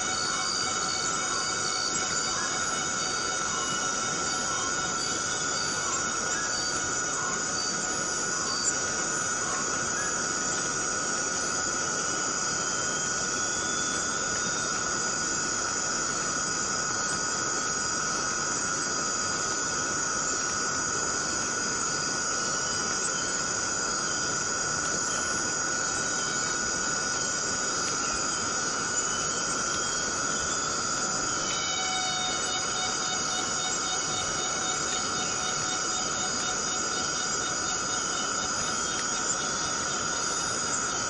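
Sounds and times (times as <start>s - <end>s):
cicadas droning: 0.0s - 41.0s.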